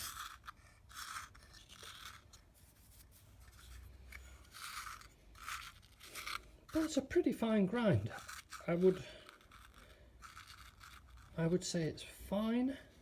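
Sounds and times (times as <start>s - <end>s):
faint scraping and rubbing: 0.0s - 13.0s.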